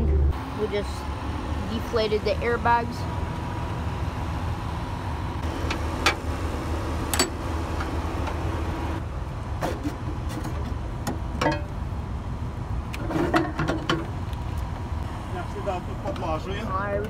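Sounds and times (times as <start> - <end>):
diesel engine idling: 0.0 - 13.0, 14.0 - 17.0.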